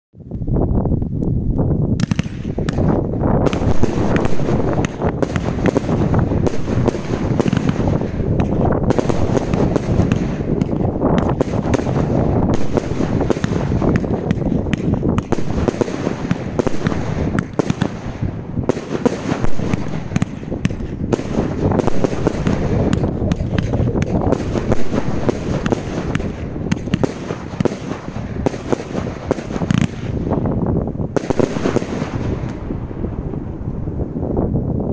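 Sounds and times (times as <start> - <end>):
wind rumble on microphone: 0.1 - 34.9
fireworks firing rapid shots: 2.0 - 32.9.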